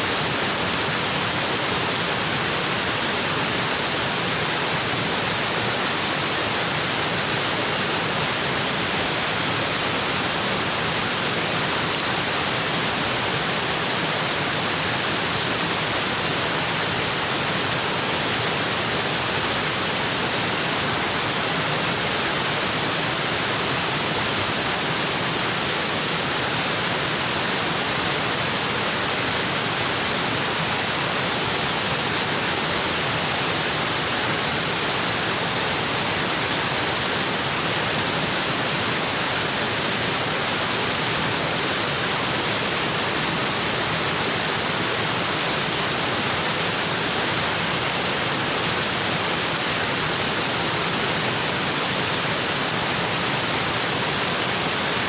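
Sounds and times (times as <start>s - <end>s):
waterfall onto rocks: 0.0s - 55.0s.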